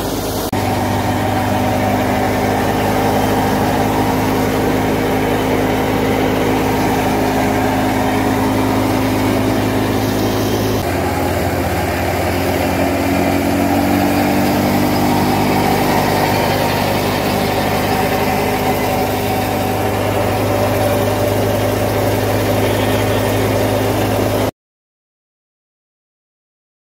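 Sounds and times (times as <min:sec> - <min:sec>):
thresher churning: 0:00.0 - 0:24.5
tractor engine drone: 0:00.0 - 0:24.5.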